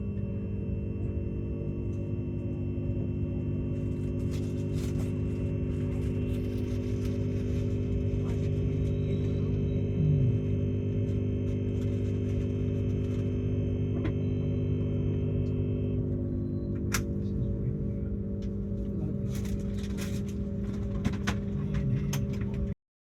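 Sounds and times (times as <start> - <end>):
electrical hum: 0.0 - 22.8
high-pitched whine: 0.0 - 22.8.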